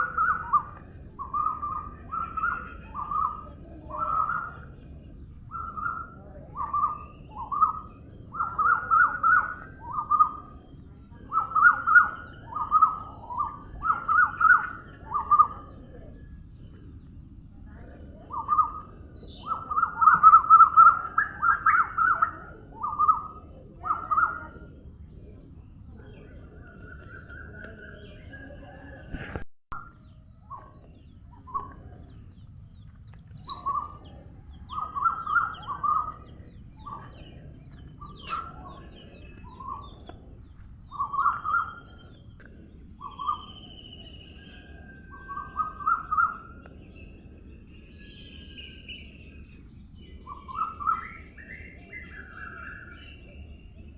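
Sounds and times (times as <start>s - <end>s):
birds calling: 0.0s - 29.4s, 30.0s - 53.9s
low background hum: 0.0s - 53.9s.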